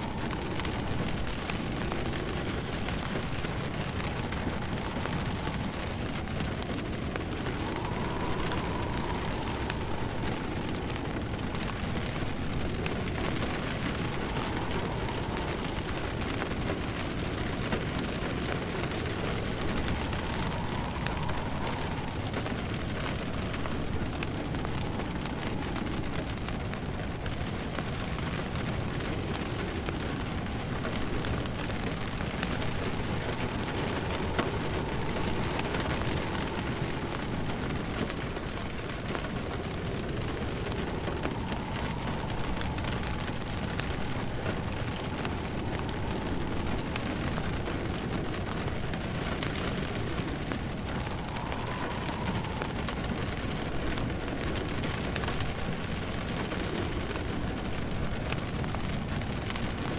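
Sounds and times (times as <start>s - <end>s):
faint wind howl: 0.0s - 59.9s
steady rain: 0.0s - 59.9s
wood fire crackling: 0.0s - 59.9s.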